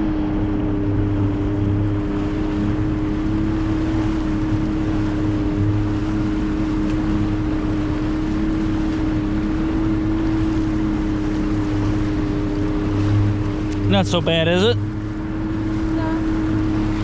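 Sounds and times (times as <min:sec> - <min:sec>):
outboard motor running: 0:00.0 - 0:17.0
water rushing: 0:00.0 - 0:17.0
wind: 0:00.0 - 0:17.0.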